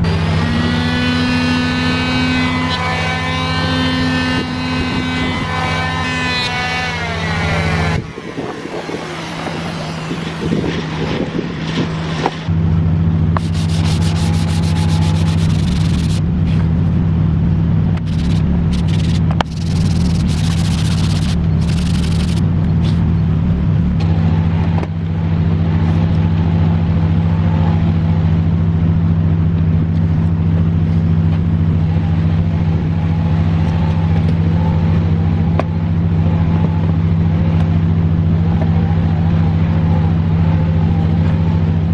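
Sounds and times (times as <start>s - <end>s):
motor humming: 0.0s - 41.9s.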